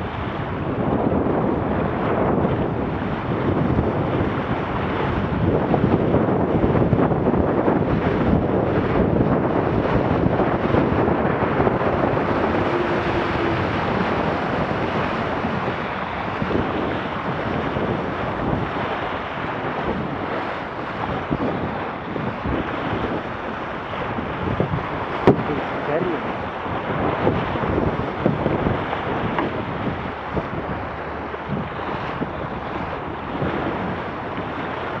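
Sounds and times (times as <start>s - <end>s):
water splashing along hull: 0.0s - 35.0s
wind buffeting microphone: 0.0s - 35.0s.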